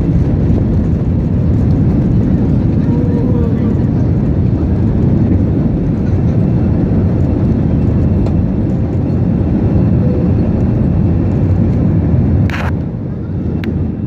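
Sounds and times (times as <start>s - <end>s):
airplane engines rumbling on takeoff: 0.0s - 14.0s.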